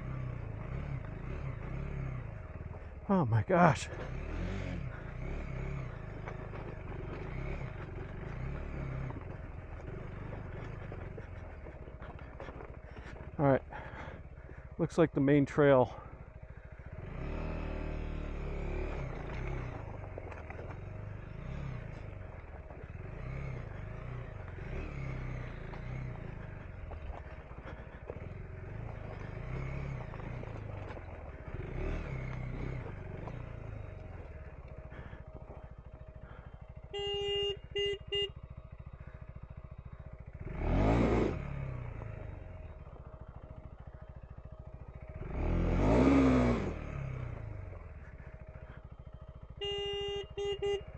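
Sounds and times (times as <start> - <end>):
motorbike engine revving: 0.0 - 14.7, 16.0 - 50.9.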